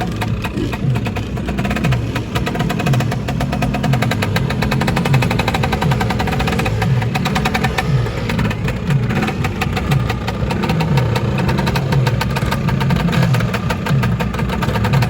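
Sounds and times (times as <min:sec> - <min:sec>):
scooter engines revving: 0:00.0 - 0:15.0.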